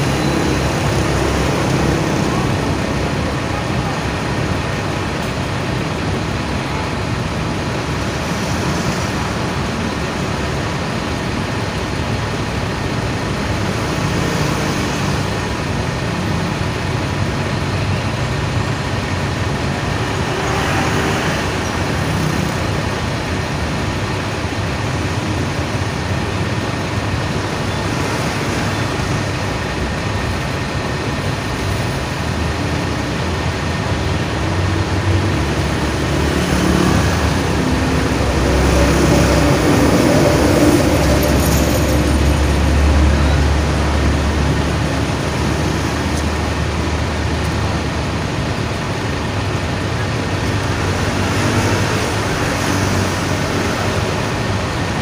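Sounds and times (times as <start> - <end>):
idling buses: 0.0 - 55.0
road traffic: 0.0 - 55.0.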